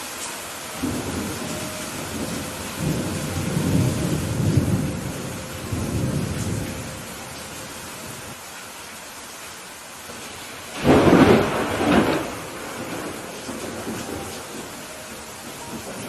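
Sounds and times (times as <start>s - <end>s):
steady rain: 0.0s - 16.0s
rolling thunder: 0.8s - 8.4s, 10.3s - 16.0s.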